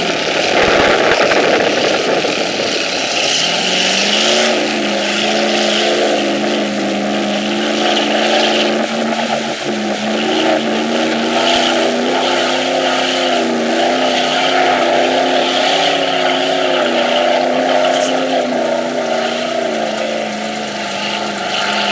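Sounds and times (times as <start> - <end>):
truck engine at high revs: 0.0 - 21.9.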